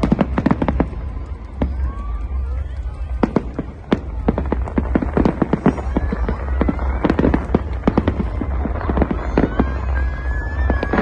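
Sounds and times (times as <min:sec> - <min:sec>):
fireworks crackling and banging: 0:00.0 - 0:11.0.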